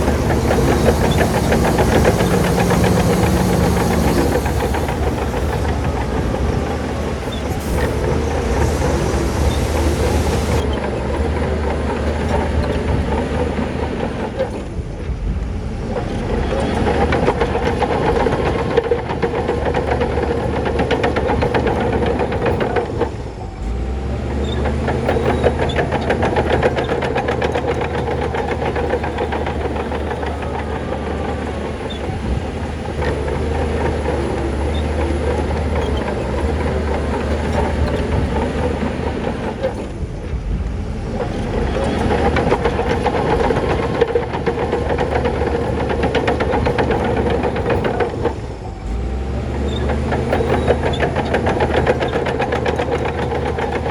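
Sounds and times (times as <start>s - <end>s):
bulldozer diesel engine running: 0.0s - 53.9s
steel tracks clattering: 0.0s - 53.9s.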